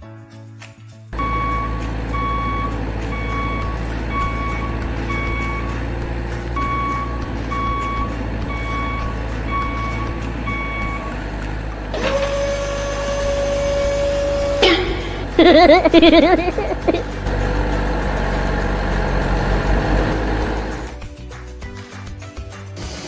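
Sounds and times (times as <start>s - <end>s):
truck reversing alarm beeping: 1.2s - 20.9s
low engine rumble: 1.2s - 21.0s.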